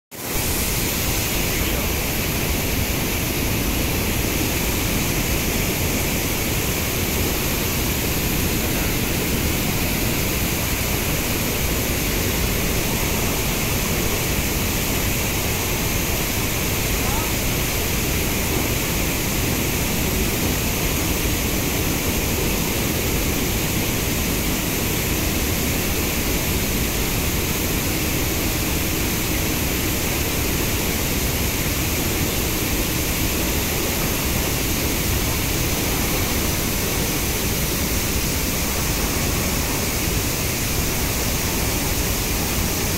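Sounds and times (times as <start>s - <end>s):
water rushing through dam gate: 0.2s - 42.9s.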